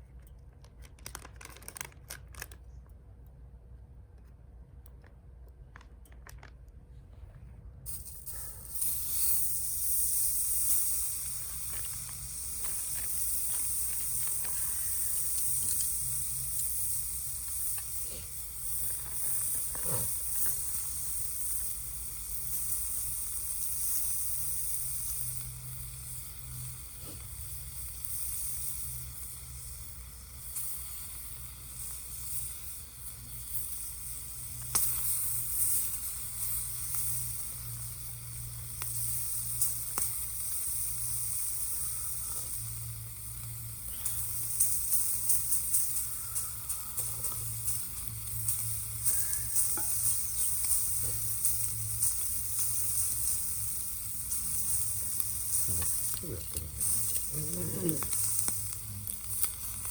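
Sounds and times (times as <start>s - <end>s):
small pops and crackles: 0.2s - 3.0s, 7.9s - 59.9s
bacon sizzling in a pan: 8.0s - 59.9s.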